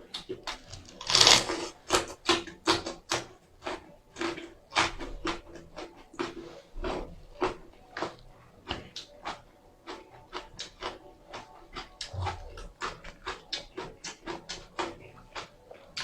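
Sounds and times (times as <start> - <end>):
wet chewing smacks: 0.0 - 16.0.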